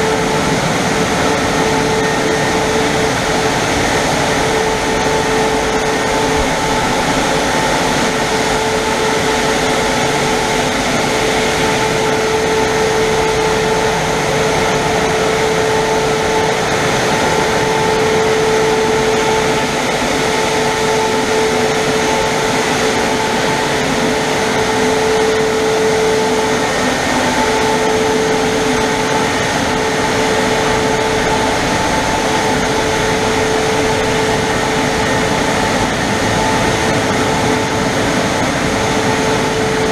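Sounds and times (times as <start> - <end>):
car wash rushing and whining: 0.0 - 39.9.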